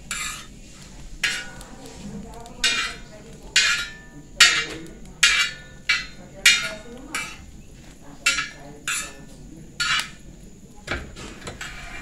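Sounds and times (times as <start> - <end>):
metal spoon scraping metal pan: 0.0 - 10.3, 11.0 - 12.0.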